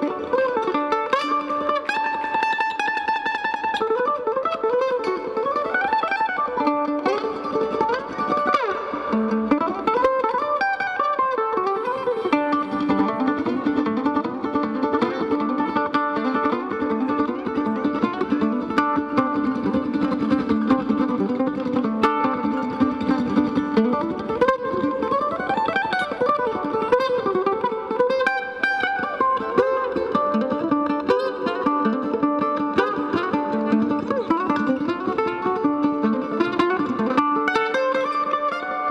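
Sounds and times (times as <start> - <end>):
mandolin picking: 0.0 - 38.9.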